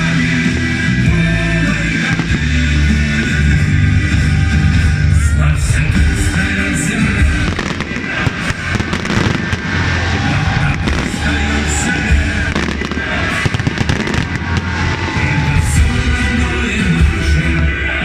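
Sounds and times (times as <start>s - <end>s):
fireworks bangs and crackling: 0.0s - 17.7s
loud music with steady beat: 0.0s - 18.0s.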